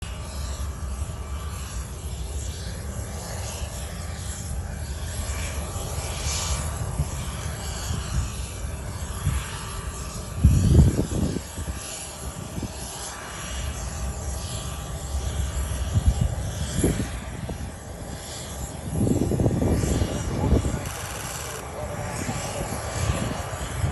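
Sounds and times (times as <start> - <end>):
jet engines rumbling: 0.1 - 23.9.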